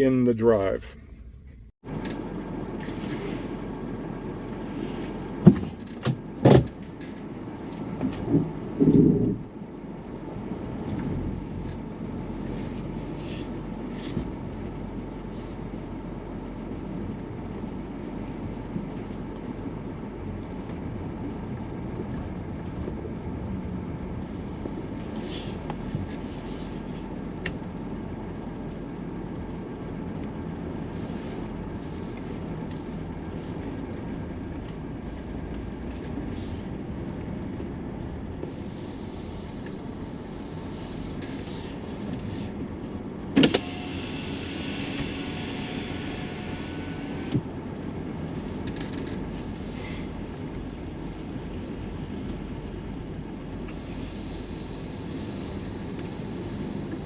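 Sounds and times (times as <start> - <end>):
van engine and road noise: 0.0 - 57.0.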